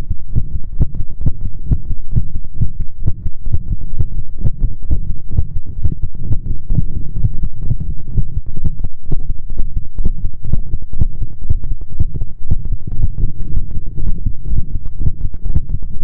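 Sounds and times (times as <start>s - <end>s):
heartbeat thumps: 0.0s - 16.0s.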